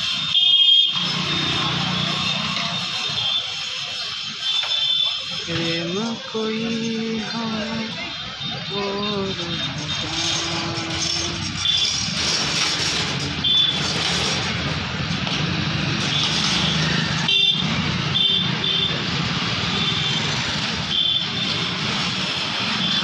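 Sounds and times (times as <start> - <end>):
street traffic passing: 0.0 - 23.0.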